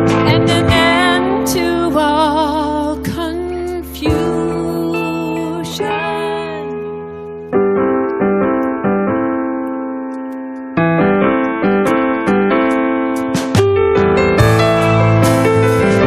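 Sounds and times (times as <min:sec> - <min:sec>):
piano playing chords: 0:00.0 - 0:16.0.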